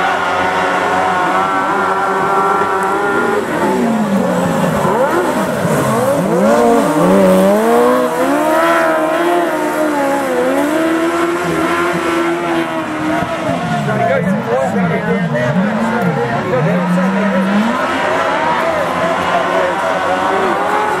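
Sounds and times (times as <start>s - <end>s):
racing motorcycle engines: 0.0s - 21.0s.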